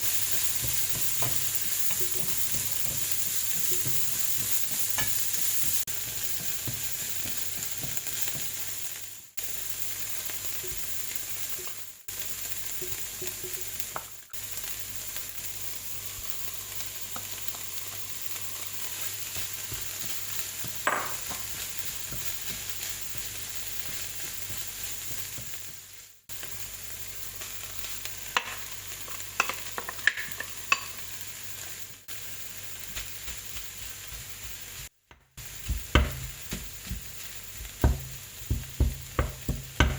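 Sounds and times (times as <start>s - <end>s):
rice sizzling in a pan: 0.0s - 39.9s.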